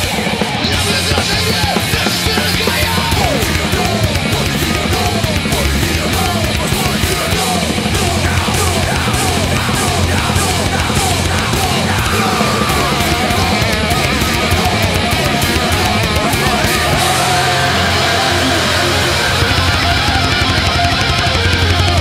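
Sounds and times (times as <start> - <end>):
distorted electric guitar: 0.0 - 22.0
drum kit played hard: 0.0 - 22.0.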